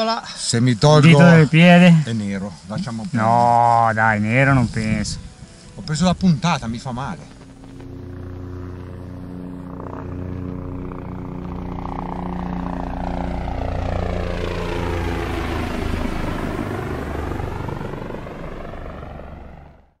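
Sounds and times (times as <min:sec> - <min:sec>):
helicopter drone: 0:00.0 - 0:20.0.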